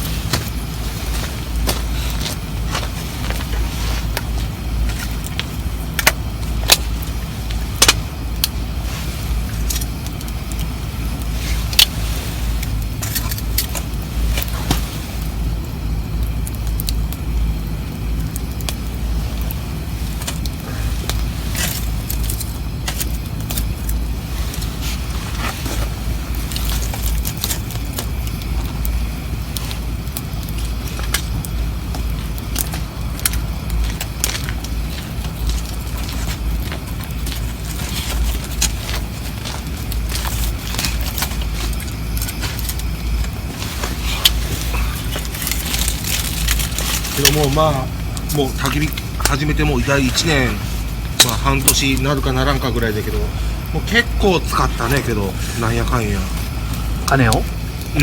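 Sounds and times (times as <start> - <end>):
campfire crackling and popping: 0.0 - 58.0
steady low rumble: 0.0 - 58.0.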